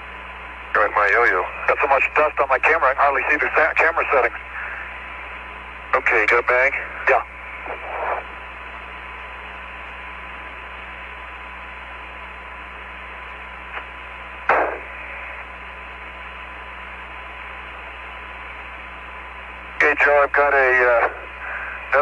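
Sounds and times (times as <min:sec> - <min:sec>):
faint tone and hum: 0:00.0 - 0:22.0
radio static hiss: 0:00.0 - 0:22.0
loud radio crackle: 0:00.7 - 0:22.0.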